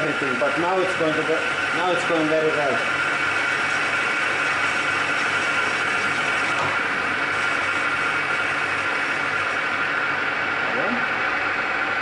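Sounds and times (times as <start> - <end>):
metal lathe hum and whine: 0.0 - 12.0.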